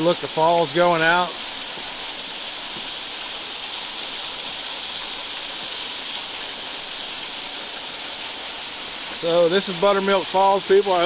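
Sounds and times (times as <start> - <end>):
waterfall hissing: 0.0 - 11.0.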